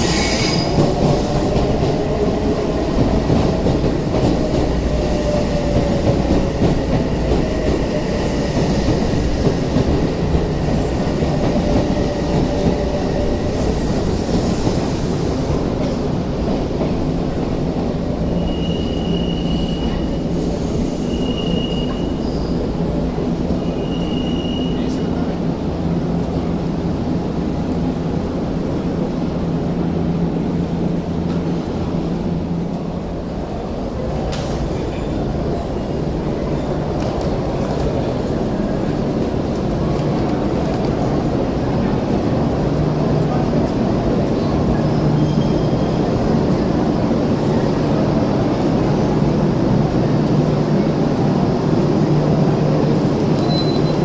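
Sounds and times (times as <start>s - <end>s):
electric train hum and rumble: 0.0s - 54.0s.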